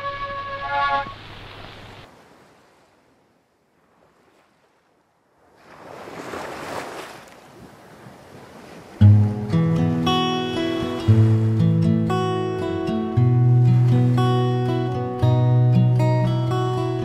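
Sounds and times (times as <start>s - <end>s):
ocean waves: 0.0s - 17.0s.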